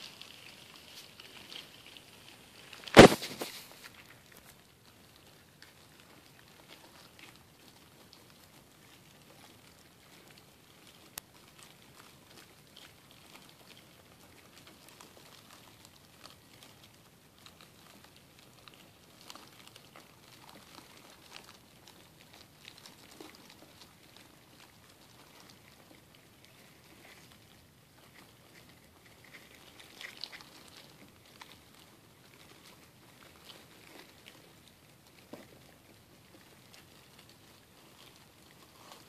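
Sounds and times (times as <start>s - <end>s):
insects scratching and rustling: 0.0s - 39.0s.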